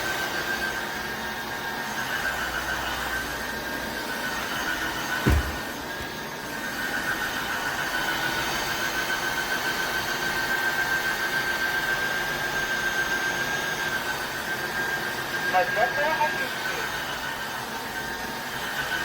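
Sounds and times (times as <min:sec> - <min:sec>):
floor vacuum running: 0:00.0 - 0:19.0.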